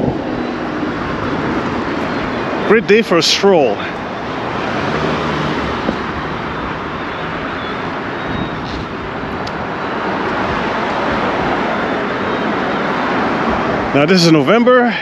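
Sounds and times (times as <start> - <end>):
passing cars and road noise: 0.0 - 15.0.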